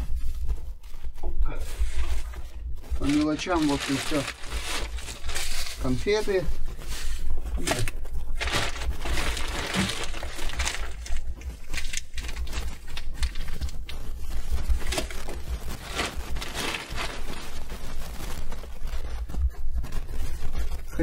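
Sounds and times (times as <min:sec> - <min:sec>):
plastic bag rustling: 0:00.0 - 0:21.0.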